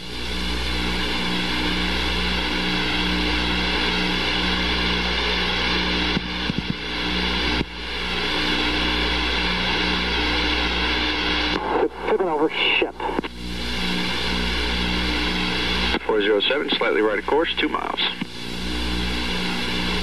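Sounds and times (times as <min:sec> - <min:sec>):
aircraft engine drone: 0:00.0 - 0:20.0.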